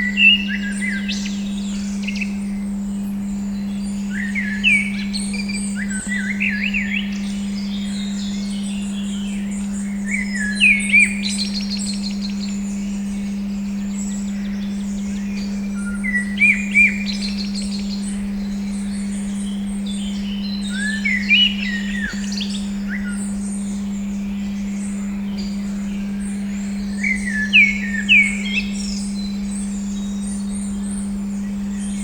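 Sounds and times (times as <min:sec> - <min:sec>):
birds chirping: 0:00.0 - 0:32.0
steady pure tone hum: 0:00.0 - 0:32.0.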